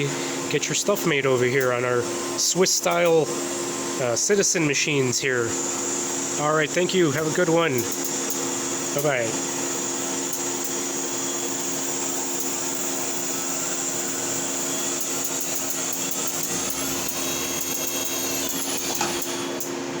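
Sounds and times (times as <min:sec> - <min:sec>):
lathe humming and hissing: 0:00.0 - 0:20.0
machine whine: 0:00.0 - 0:20.0.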